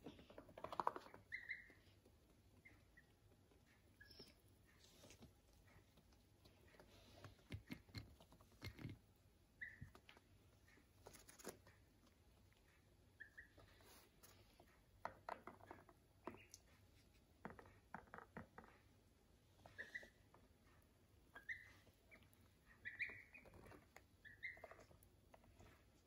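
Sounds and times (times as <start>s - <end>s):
birds pecking and stepping: 0.0s - 26.0s
soft peeps: 0.0s - 26.0s.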